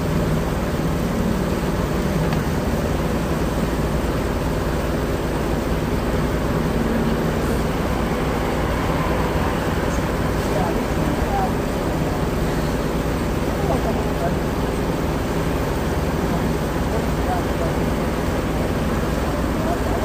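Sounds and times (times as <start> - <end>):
boat motor humming: 0.0 - 20.0
water rushing: 0.0 - 20.0.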